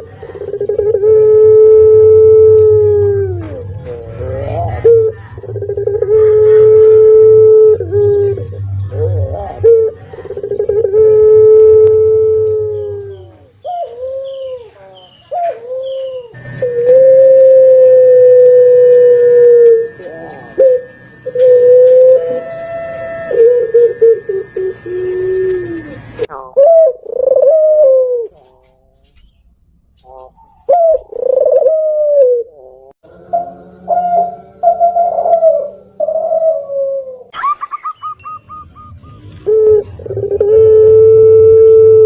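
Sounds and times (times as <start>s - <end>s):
dove cooing: 0.0s - 29.0s, 30.0s - 37.3s, 38.1s - 42.0s.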